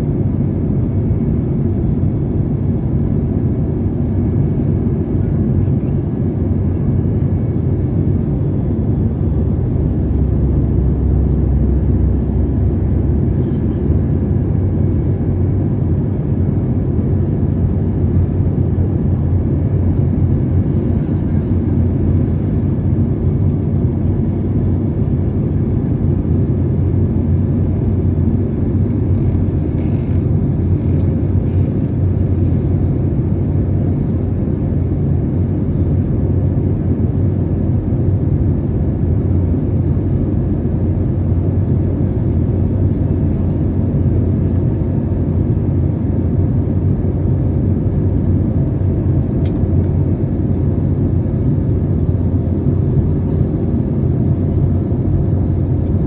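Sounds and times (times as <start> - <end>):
airliner cabin engine roar: 0.0 - 56.0.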